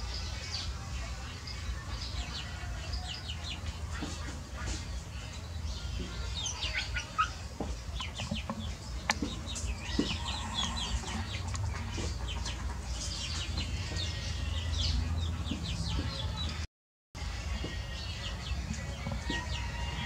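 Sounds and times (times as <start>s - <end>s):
sparrows chirping: 0.0s - 16.7s, 17.6s - 20.0s.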